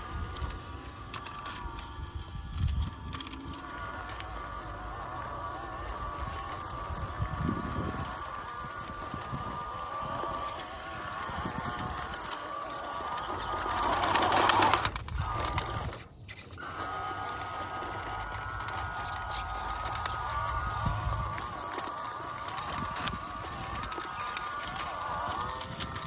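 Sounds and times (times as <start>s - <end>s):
toy car motor whining: 0.0s - 26.0s.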